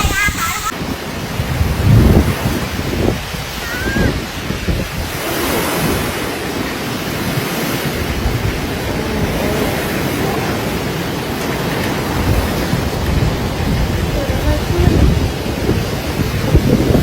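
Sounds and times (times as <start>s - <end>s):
rushing waves: 0.0s - 17.0s
strong wind buffeting microphone: 0.0s - 17.0s.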